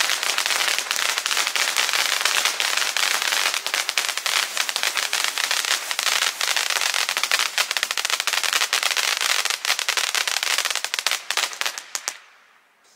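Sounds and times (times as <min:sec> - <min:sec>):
firework fountain hissing sparks: 0:00.0 - 0:12.2
rapid crackling pops: 0:00.0 - 0:12.3.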